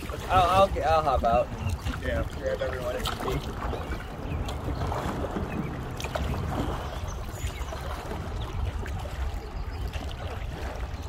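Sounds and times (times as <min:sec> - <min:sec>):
water splashing around kayaks: 0:00.0 - 0:11.0.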